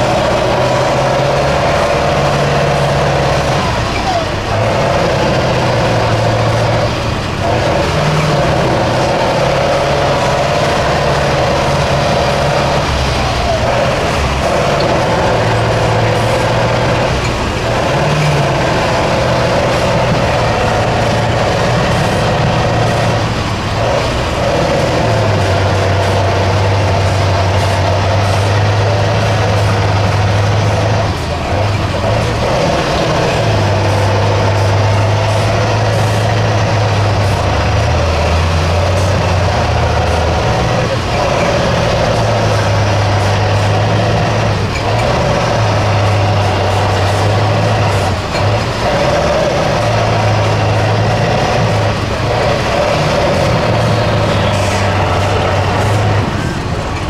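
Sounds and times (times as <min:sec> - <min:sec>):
truck engine labouring: 0:00.0 - 0:57.0.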